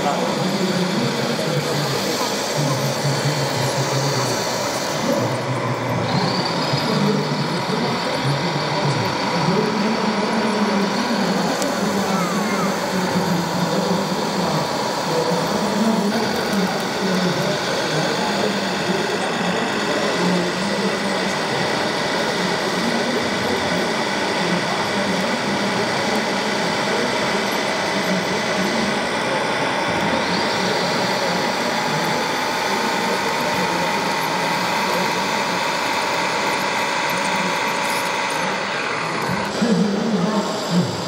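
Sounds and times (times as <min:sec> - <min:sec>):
electric motors and gears whirring: 0:00.0 - 0:41.0.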